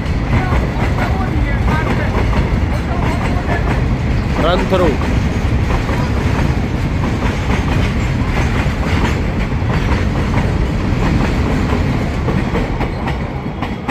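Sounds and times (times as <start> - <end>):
freight train rumbling: 0.0 - 13.9
wheels clattering over rail joints: 0.0 - 13.9.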